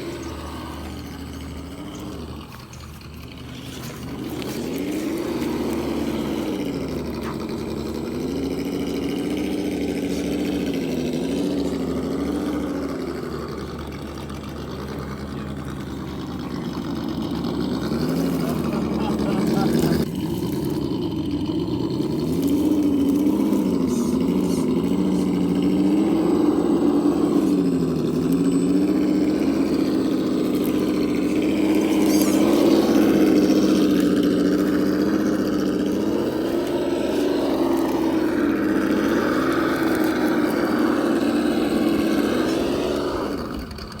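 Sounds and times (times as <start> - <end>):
simulated engine note revving: 0.0 - 44.0.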